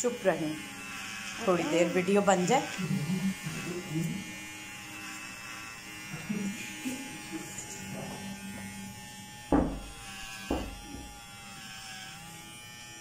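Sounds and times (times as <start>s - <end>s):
electric hair trimmer buzzing: 0.0s - 13.0s.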